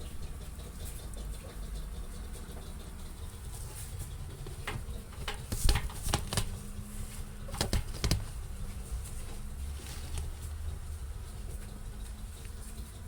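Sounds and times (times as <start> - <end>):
ferret scrabbling in washing machine: 0.0 - 13.0
steady low hum: 0.0 - 13.0.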